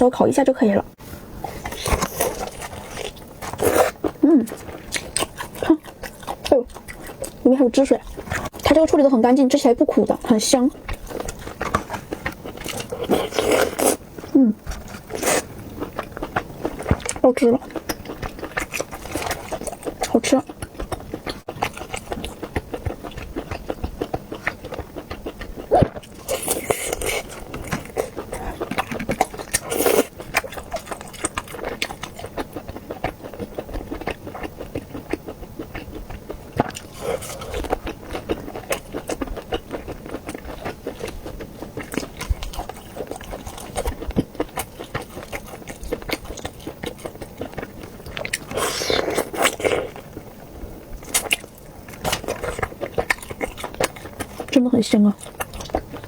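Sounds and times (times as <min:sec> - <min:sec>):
chewing and biting sausage: 0:01.4 - 0:08.8, 0:09.9 - 0:56.0.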